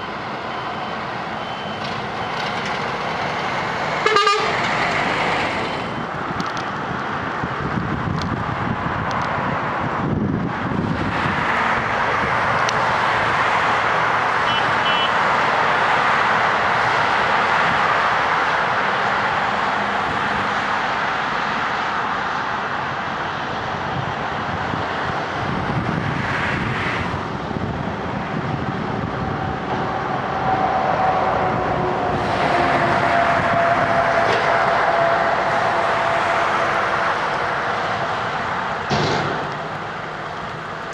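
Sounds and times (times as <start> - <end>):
diesel road machinery running: 0.0 - 40.9.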